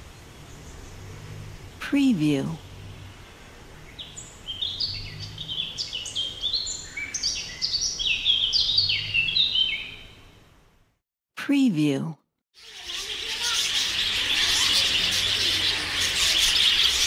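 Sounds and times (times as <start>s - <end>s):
birds chirping: 0.0s - 10.4s, 12.6s - 17.0s.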